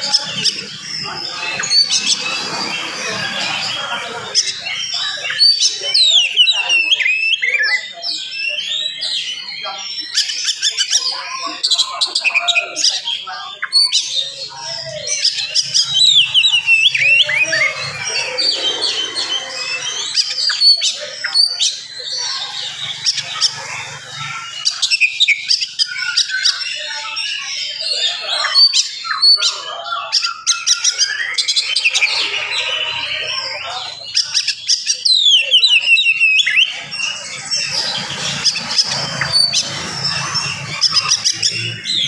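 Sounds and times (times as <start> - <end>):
bird singing: 0.0 - 42.0.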